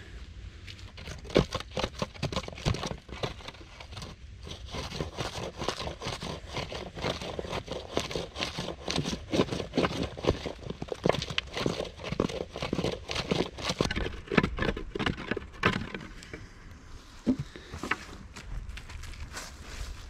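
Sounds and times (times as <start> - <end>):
dense crackling and crinkling: 0.6 - 20.0.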